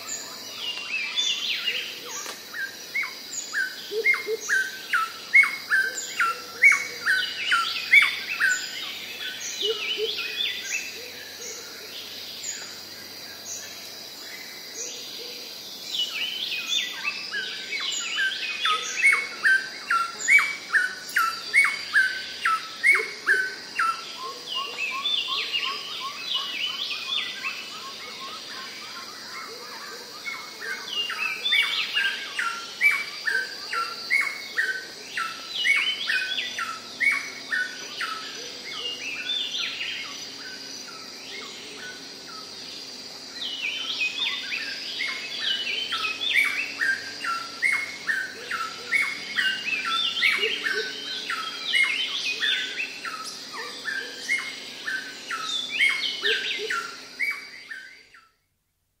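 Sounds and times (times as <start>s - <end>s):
high insect drone: 0.0s - 58.6s.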